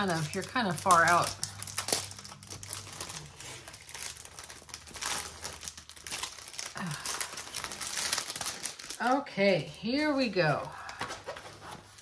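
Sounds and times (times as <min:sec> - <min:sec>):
plastic wrapping crinkling: 0:00.0 - 0:10.1.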